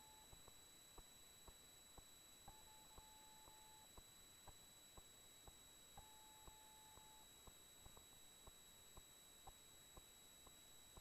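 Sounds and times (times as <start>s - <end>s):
faint steady tone: 0.0s - 11.0s
faint ticks: 0.1s - 11.0s.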